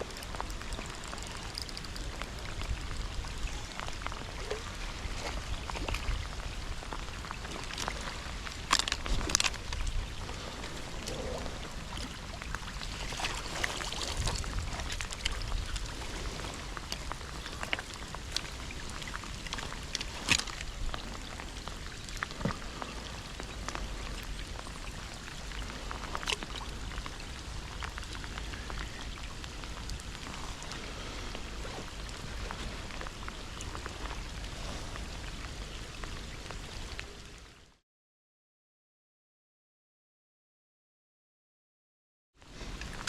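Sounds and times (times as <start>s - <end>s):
steady rain drops ticking: 0.0s - 37.8s.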